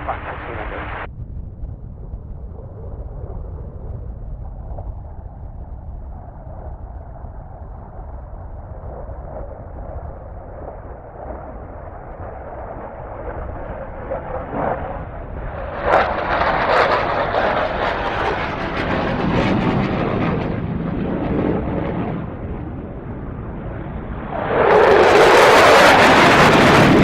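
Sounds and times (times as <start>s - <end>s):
distant jet engine rumbling: 0.0s - 27.0s.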